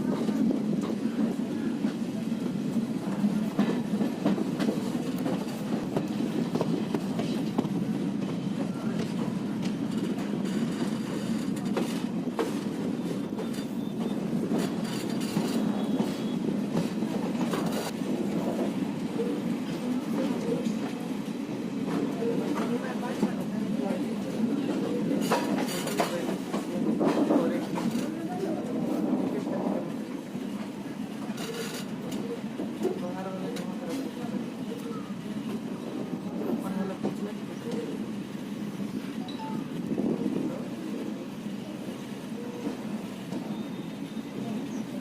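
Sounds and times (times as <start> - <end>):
train coaches running on track: 0.0 - 45.0.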